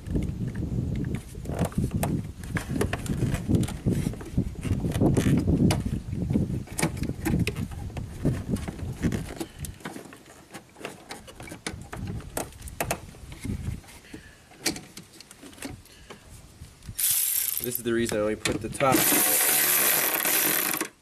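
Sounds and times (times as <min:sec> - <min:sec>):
low rustling handling noise: 0:00.0 - 0:20.8.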